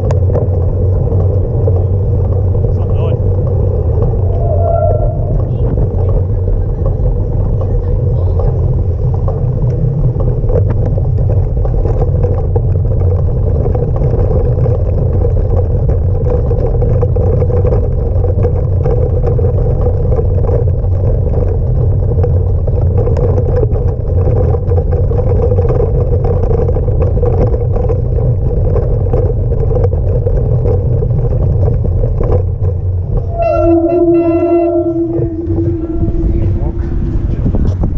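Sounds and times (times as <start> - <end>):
bicycle rolling over cobblestones: 0.0 - 37.9.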